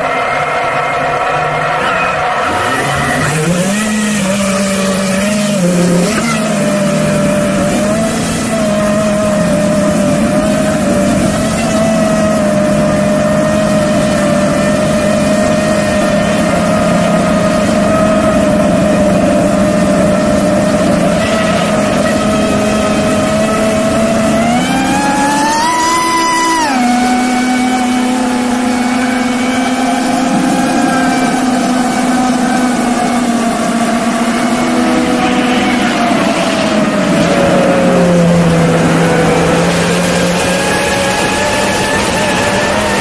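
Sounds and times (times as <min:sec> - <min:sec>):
drone propellers whining: 0:00.0 - 0:43.0.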